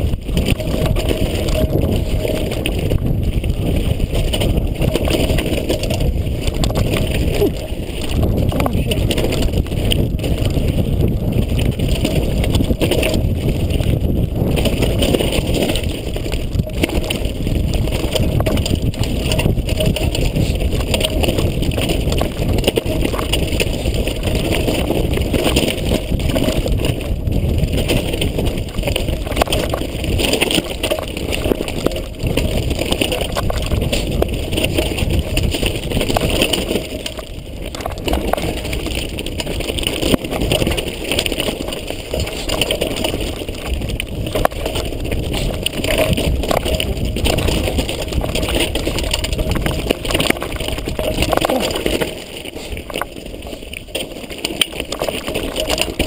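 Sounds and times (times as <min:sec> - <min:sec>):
wind rushing over microphone: 0:00.0 - 0:54.0
mountain bike rumble and rattle: 0:00.0 - 0:56.0.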